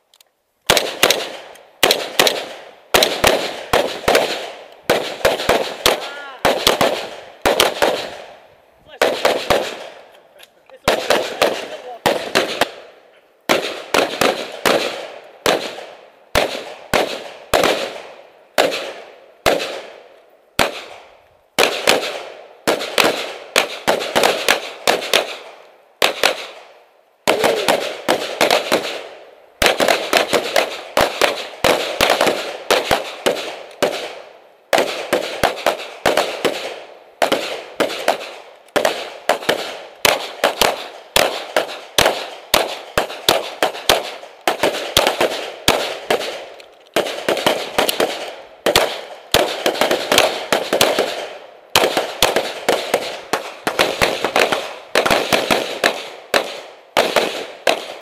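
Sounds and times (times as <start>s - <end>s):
gunshots with echo: 0.7s - 8.4s, 9.0s - 10.1s, 10.8s - 58.0s.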